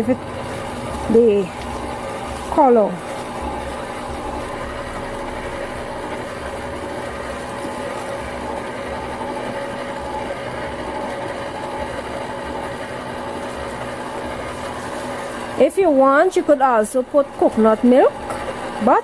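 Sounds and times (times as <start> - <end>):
mechanical hum with pulsing throb: 0.0 - 19.0.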